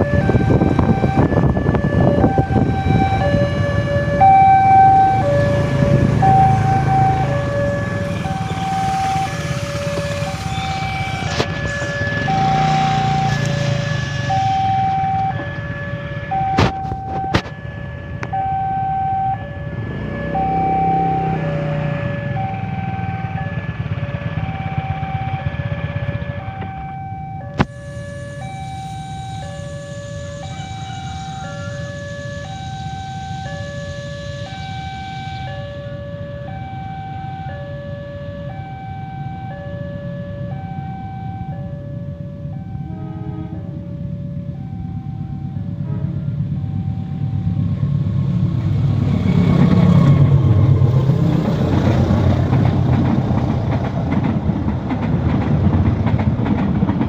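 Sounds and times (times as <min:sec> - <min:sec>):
electronic two-tone warning: 0:00.0 - 0:45.8, 0:46.4 - 0:48.2
diesel engine rumble: 0:00.0 - 0:57.0.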